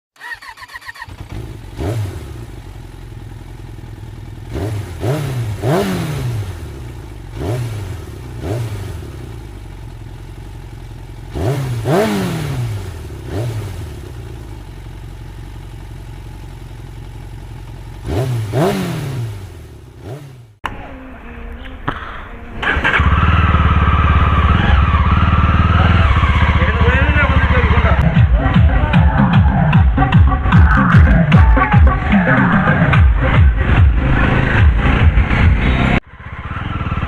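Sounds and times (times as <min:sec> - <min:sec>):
motorcycle engine revving: 0:00.1 - 0:20.6, 0:22.6 - 0:37.0.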